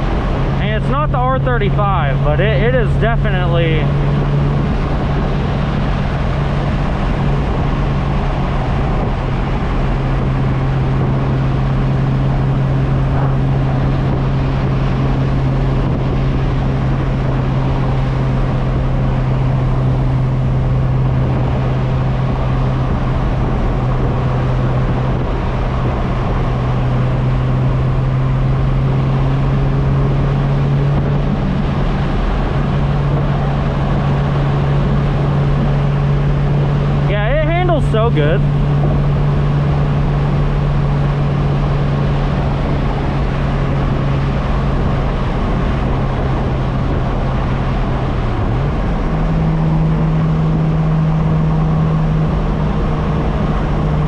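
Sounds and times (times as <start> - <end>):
car engine low drone: 0.0 - 54.0.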